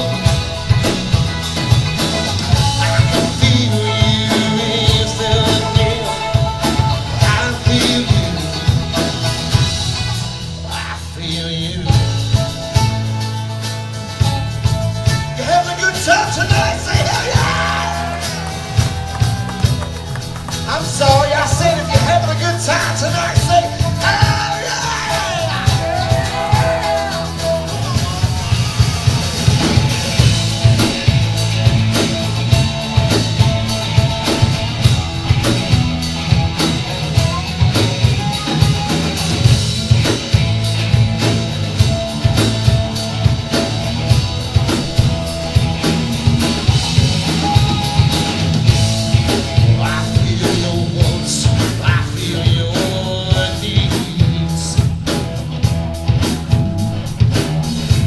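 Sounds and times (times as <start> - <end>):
drum kit beat: 0.0 - 58.0
rock band playing live: 0.0 - 58.0.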